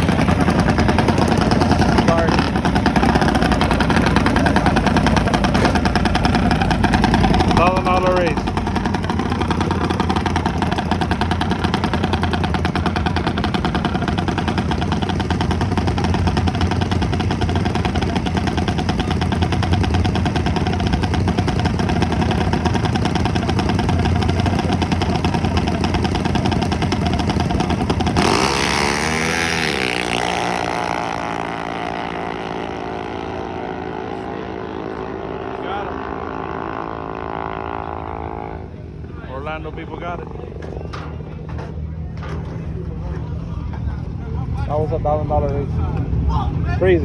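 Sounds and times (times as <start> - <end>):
mini bike engines racing: 0.0 - 47.0.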